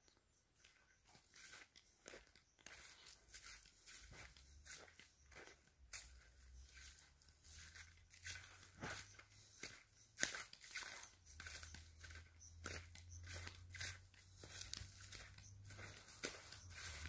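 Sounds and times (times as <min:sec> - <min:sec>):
footsteps crunching on dry grass: 0:00.6 - 0:17.0.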